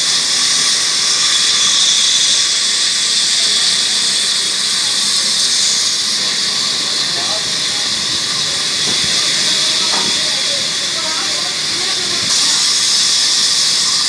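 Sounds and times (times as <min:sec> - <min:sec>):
saw cutting through log: 0:00.0 - 0:14.0.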